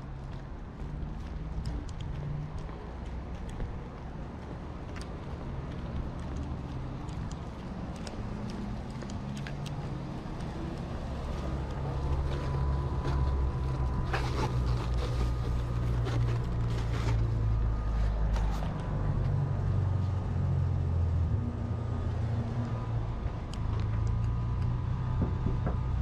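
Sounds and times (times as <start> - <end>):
road noise: 0.0 - 26.0
car engine hum: 0.5 - 26.0.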